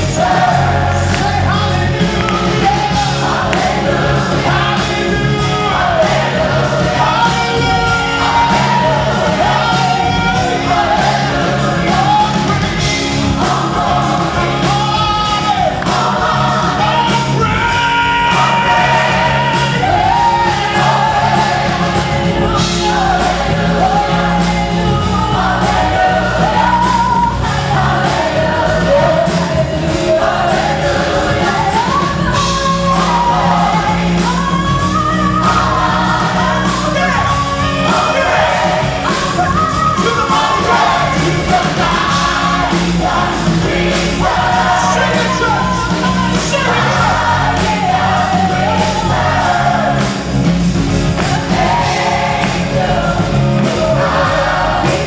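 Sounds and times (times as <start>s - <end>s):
band playing: 0.0s - 55.0s
drum beat: 0.0s - 55.0s
gospel choir singing: 0.0s - 55.0s
lead voices singing: 0.0s - 55.0s.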